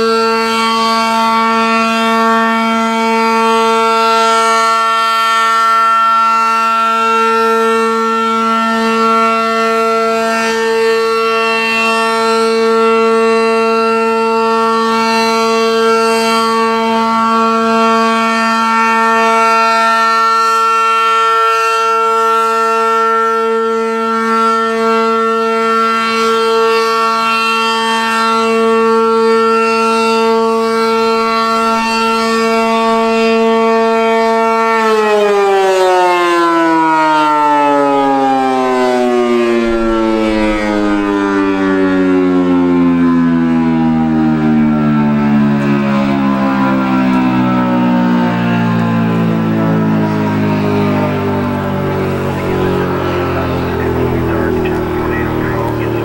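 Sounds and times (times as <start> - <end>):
warning siren: 0.0 - 56.0.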